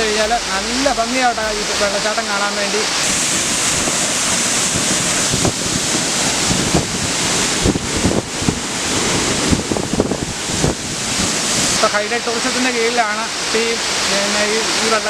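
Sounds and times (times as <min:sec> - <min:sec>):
waterfall roaring: 0:00.0 - 0:13.1.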